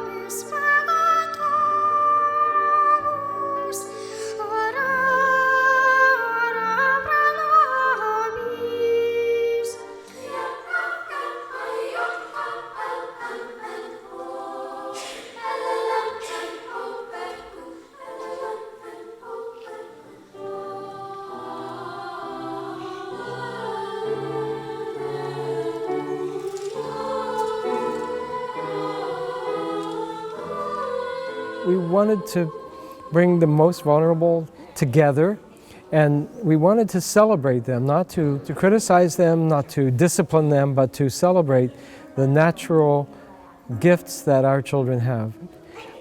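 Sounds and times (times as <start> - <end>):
choir singing sustained notes: 0.0 - 45.7.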